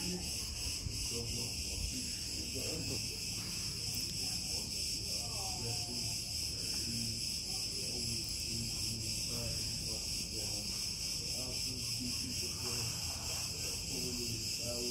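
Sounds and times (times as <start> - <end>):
cicadas buzzing: 0.0 - 14.9.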